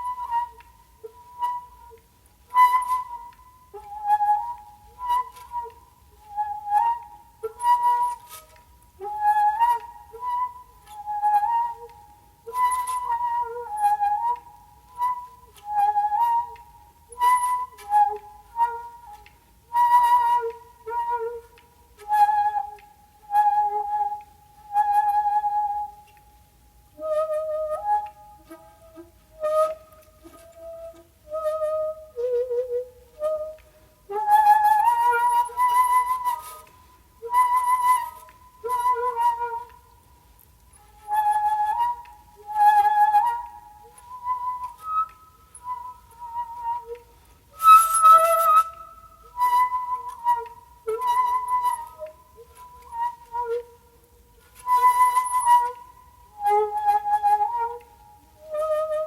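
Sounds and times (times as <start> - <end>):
breathy bamboo flute phrases: 0.0 - 59.0.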